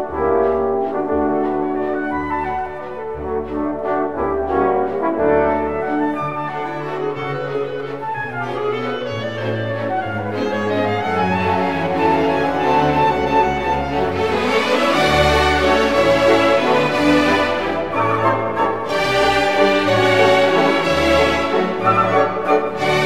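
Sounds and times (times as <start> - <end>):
orchestral music with brass: 0.0 - 23.0.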